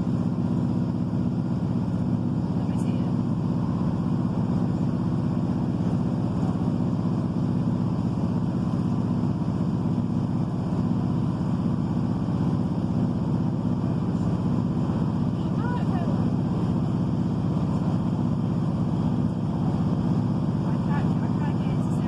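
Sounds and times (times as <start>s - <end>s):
diesel railcar engine drone: 0.0s - 22.0s
wheels rumbling on track: 0.0s - 22.0s.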